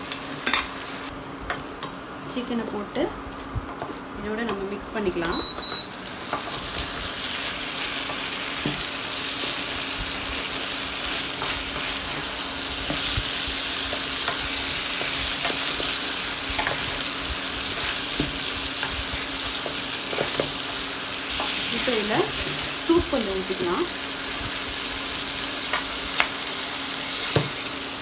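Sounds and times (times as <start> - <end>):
food sizzling in oil: 1.7 - 28.0.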